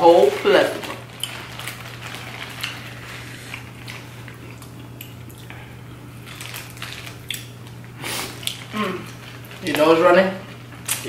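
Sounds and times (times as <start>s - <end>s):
plastic bags crinkling: 0.0s - 4.7s, 6.2s - 11.0s
steady low hum: 0.0s - 11.0s
wet chewing and squishing: 0.9s - 9.8s.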